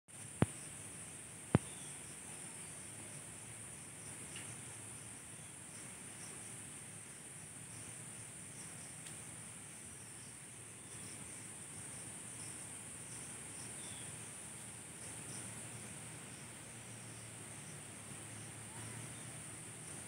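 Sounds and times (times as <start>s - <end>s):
faint insect chirp: 0.1s - 20.0s
insect chorus drone: 0.1s - 20.0s.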